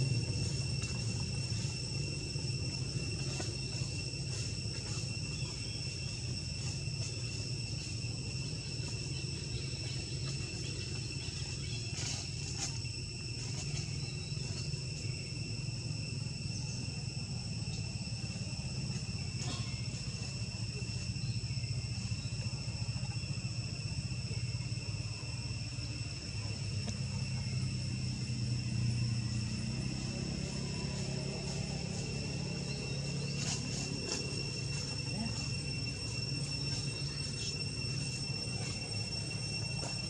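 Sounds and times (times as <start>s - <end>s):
high-pitched insect drone: 0.0s - 40.0s.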